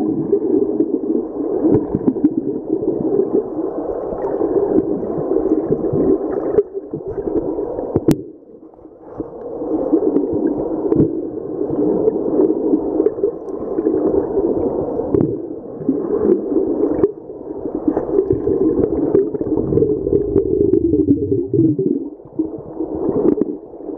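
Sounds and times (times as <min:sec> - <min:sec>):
muffled underwater sloshing: 0:00.0 - 0:23.9.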